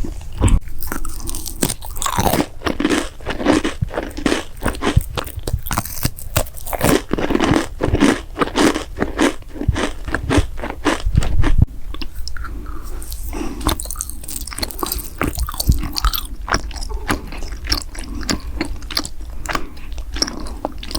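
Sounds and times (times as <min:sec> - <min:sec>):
mouth chewing crunchy food: 0:00.0 - 0:20.9.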